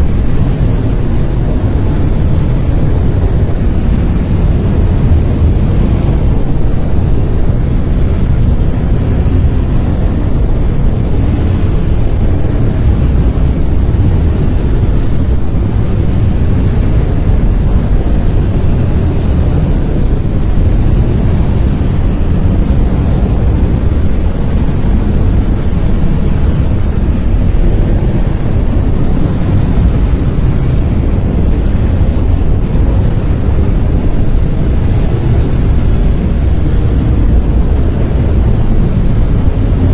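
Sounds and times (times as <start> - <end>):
deep rumbling brown noise: 0.0 - 39.9.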